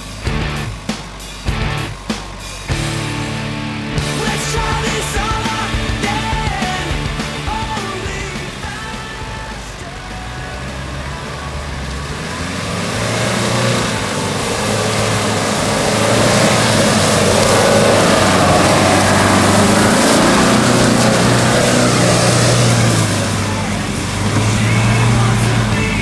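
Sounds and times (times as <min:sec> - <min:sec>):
engine running under load: 0:00.0 - 0:26.0.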